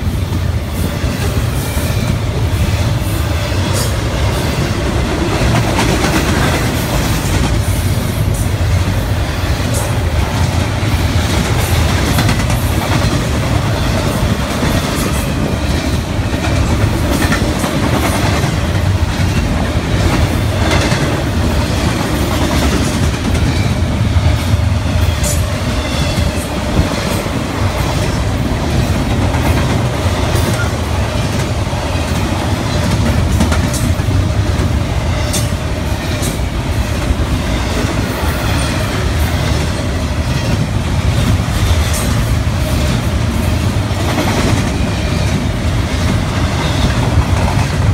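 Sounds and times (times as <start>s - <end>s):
clickety-clack over rail joints: 0.0s - 47.9s
train wheels rumbling on rail: 0.0s - 47.9s.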